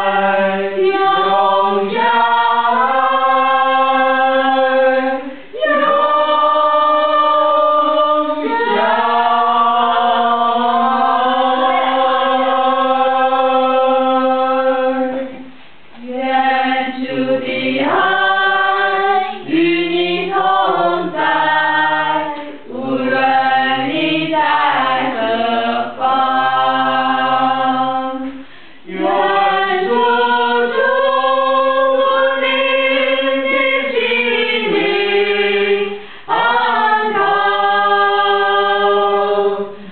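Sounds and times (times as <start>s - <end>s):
choir singing slow song: 0.0s - 39.9s.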